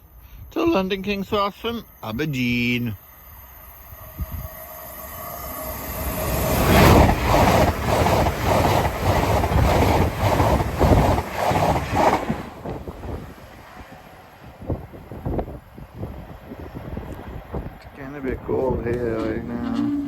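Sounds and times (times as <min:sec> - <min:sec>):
express train passing: 0:00.0 - 0:20.0.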